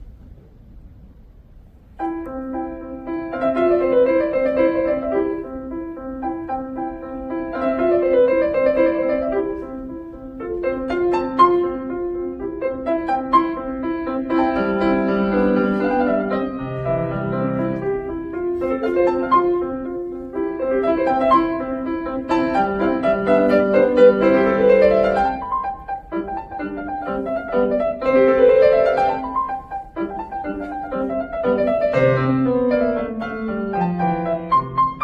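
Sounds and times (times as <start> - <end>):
piano solo: 1.9 - 35.0.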